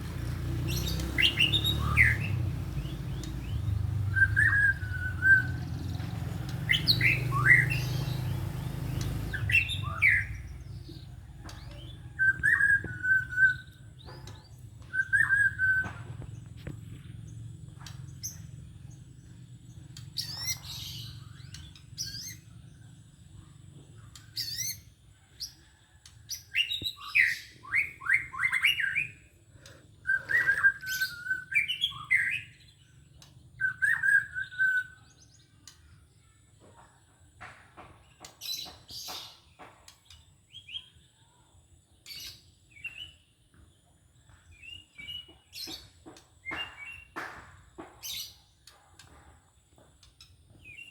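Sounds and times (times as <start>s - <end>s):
songbird singing whistled notes: 0.0s - 36.4s, 38.0s - 49.2s, 50.0s - 50.9s.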